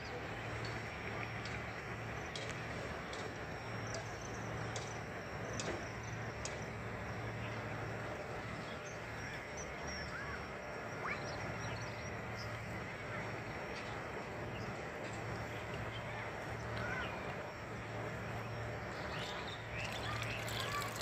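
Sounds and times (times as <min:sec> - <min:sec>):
open-air noise: 0:00.0 - 0:21.0
steady low hum: 0:00.0 - 0:21.0.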